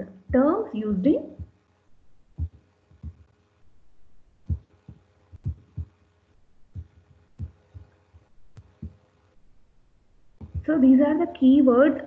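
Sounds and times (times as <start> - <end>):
soft low thumps: 0.0 - 11.1
faint steady hum: 0.0 - 12.0.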